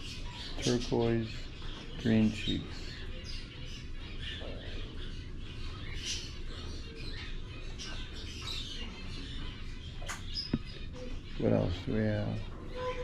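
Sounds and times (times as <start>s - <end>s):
parrots chirping: 0.0s - 13.0s.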